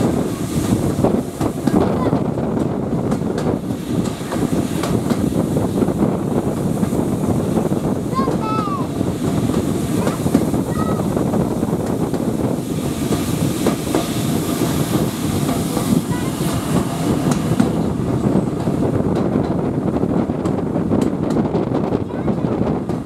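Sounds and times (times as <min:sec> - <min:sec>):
train wheels rumbling on rails: 0:00.0 - 0:23.0
wheels clicking over rail joints: 0:00.1 - 0:05.7, 0:06.4 - 0:23.0.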